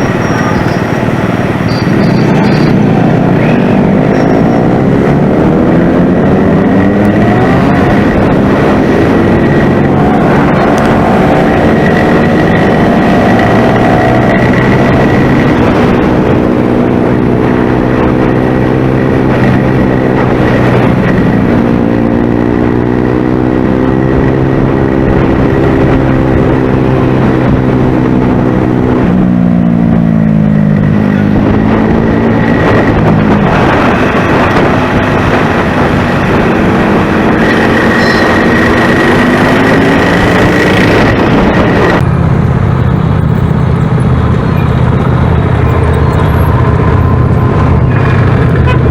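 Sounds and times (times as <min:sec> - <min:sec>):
motorcycle engine revving: 0:00.0 - 0:48.9
wind and road rush: 0:00.0 - 0:48.9.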